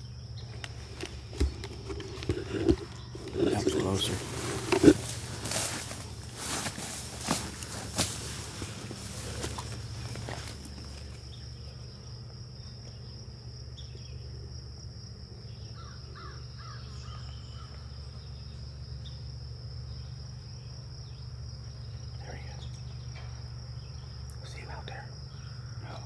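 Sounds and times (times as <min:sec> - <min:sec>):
bird calls: 0:00.0 - 0:14.5, 0:15.4 - 0:26.0
low steady hum: 0:00.0 - 0:26.0.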